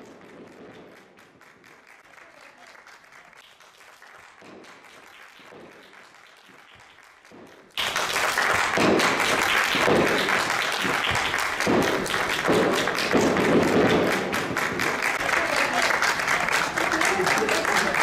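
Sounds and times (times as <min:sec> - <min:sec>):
small group clapping: 0:00.0 - 0:18.0.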